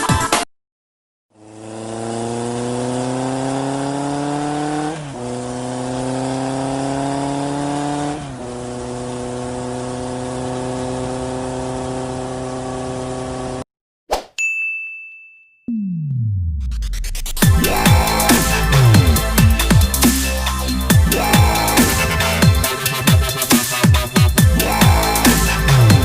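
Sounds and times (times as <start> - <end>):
engine accelerating through gears: 1.3 - 13.6, 15.7 - 26.0.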